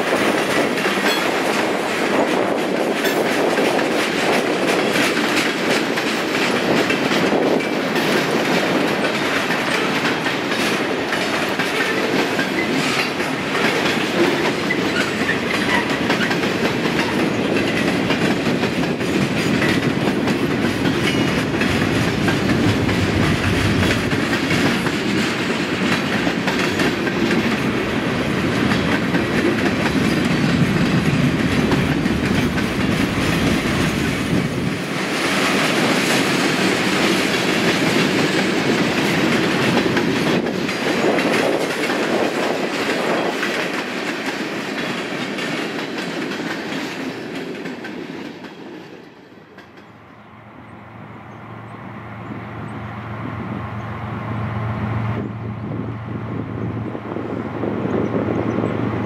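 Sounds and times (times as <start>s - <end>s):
train wheels clicking: 0.0s - 50.2s
train wheels rumbling on rail: 0.0s - 59.0s.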